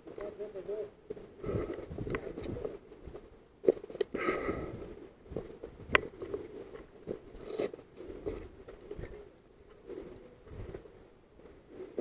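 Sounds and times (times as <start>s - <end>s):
vegetation rustling: 0.0s - 12.0s.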